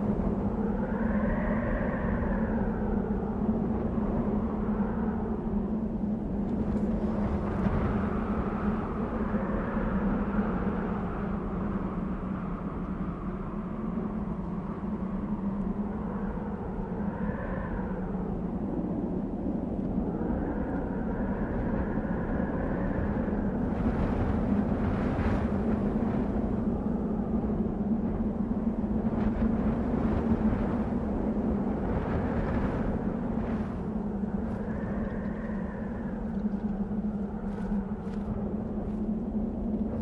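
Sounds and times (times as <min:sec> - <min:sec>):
hissing wind gusts: 0:00.0 - 0:40.0
wind whistling: 0:00.0 - 0:40.0
wind with low rumble: 0:00.0 - 0:40.0.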